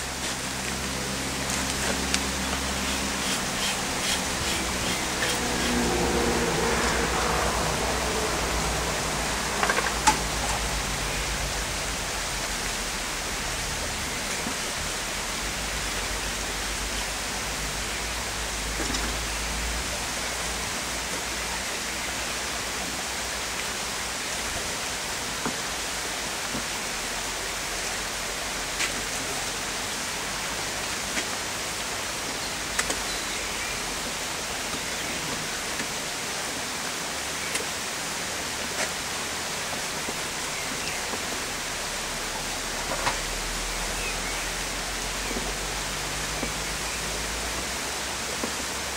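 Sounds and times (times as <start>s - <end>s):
steady rushing hiss: 0.0s - 48.9s.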